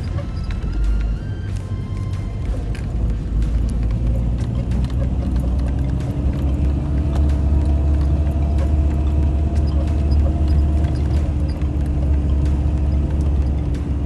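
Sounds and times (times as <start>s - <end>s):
clicks and rattles: 0.0s - 14.0s
vehicle engine rumble: 0.0s - 14.0s.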